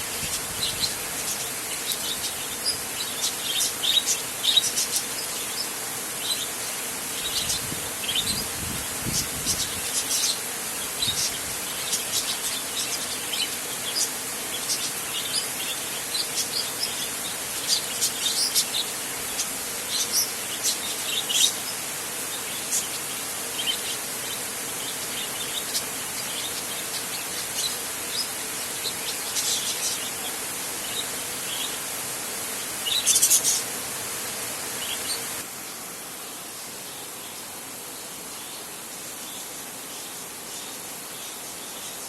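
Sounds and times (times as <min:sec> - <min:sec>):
small birds chirping: 0:00.0 - 0:42.0
steady hiss: 0:00.0 - 0:42.0.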